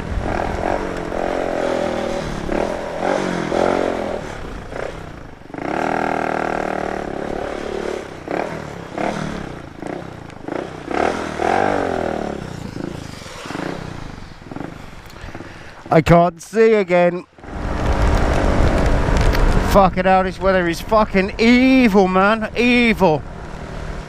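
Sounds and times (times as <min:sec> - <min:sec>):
motorcycle engine revving: 0:00.0 - 0:15.8, 0:17.3 - 0:24.0.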